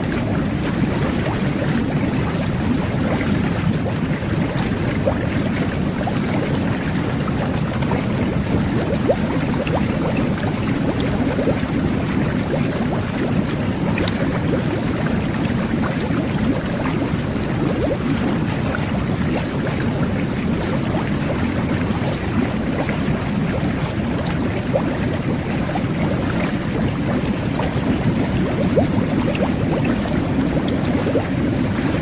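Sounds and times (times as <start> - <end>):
bubbles popping: 0.0 - 32.0
whirlpool bath water churning: 0.0 - 32.0.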